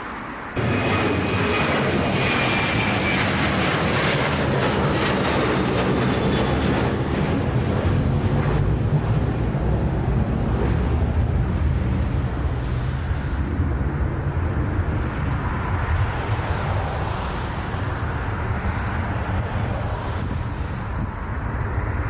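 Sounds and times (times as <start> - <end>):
airliner engine noise: 0.0 - 22.0.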